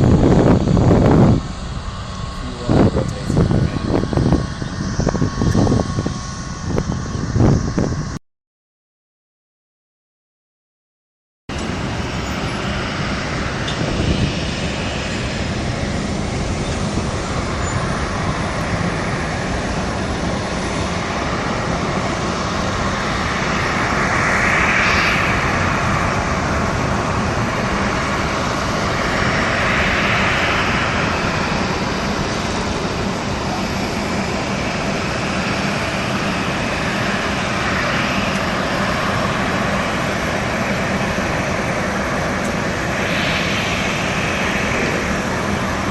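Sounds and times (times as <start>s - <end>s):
jet engines roaring: 0.0s - 8.2s, 11.5s - 45.9s.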